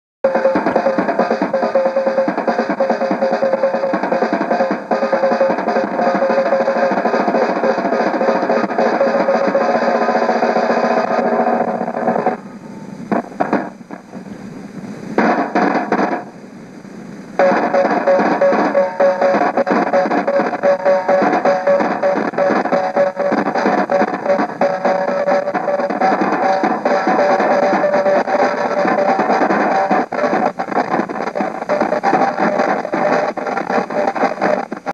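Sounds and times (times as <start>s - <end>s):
snare and tom drum roll: 0.2s - 14.6s, 15.2s - 16.4s, 17.4s - 34.9s.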